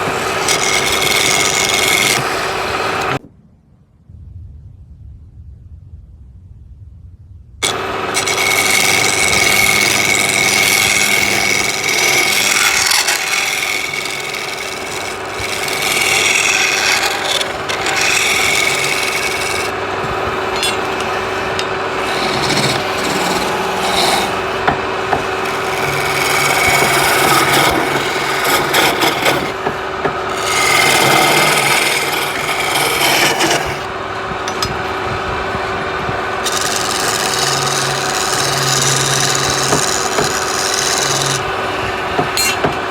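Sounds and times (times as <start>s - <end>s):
lathe motor hum: 0.0s - 3.2s, 7.6s - 42.9s
turning tool scraping wood: 0.0s - 3.2s, 7.6s - 42.9s.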